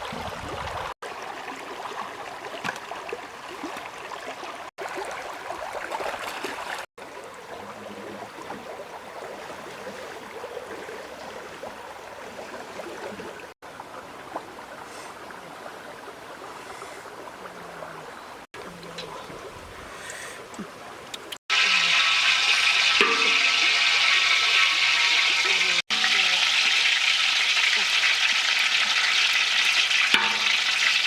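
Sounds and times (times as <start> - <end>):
river water babbling: 0.0 - 21.4, 23.0 - 24.5, 25.3 - 31.0.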